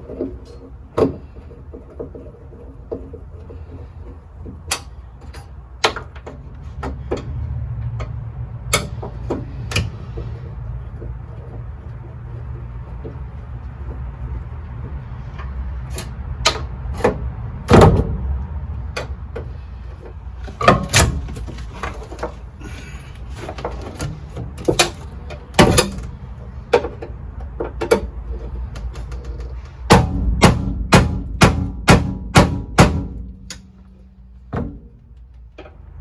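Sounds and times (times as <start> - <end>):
car parts and tools knocking: 0.0 - 36.0
steady low hum: 0.0 - 36.0.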